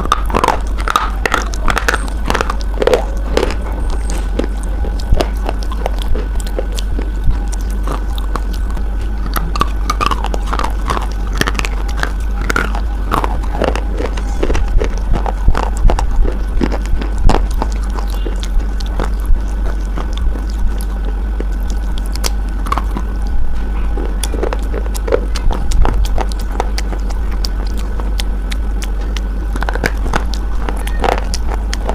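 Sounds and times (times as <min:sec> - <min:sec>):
crunchy bar being chewed: 0:00.0 - 0:31.9.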